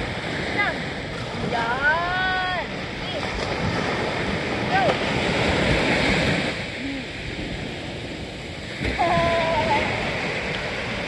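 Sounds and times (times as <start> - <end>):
small waves breaking on shore: 0.0 - 11.0.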